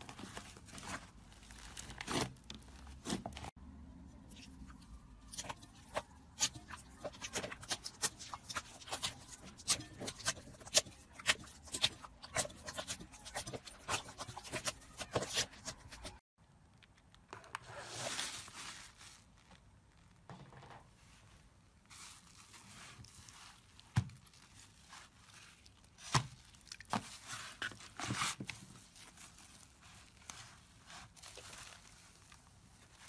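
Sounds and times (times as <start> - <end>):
slime crackling and squishing: 0.0 - 20.3, 20.9 - 33.0.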